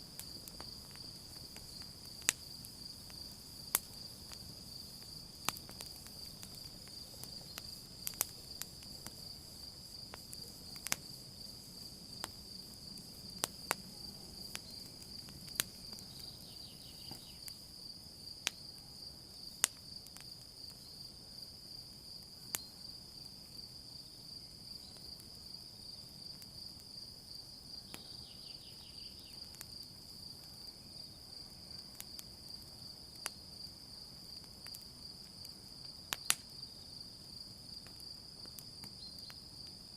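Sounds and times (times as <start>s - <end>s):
campfire crackling and popping: 0.0s - 23.8s, 24.4s - 39.9s
crickets chirring: 0.0s - 39.9s.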